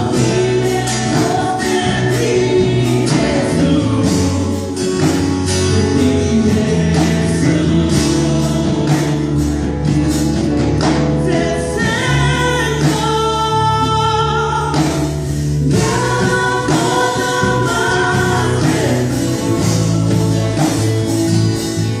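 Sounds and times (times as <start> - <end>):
singers in harmony: 0.0 - 14.8, 15.6 - 21.2
drums: 0.0 - 22.0
live band playing worship music: 0.0 - 22.0.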